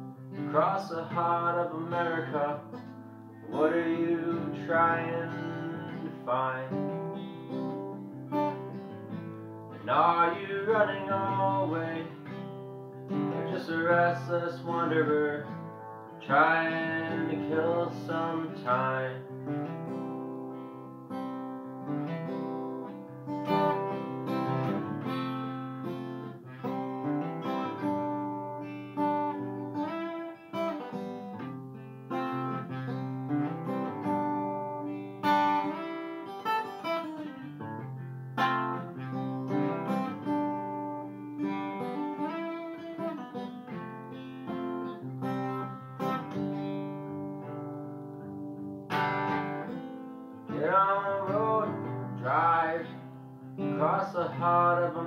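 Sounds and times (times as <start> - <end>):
acoustic guitar strumming chords: 0.0 - 55.0.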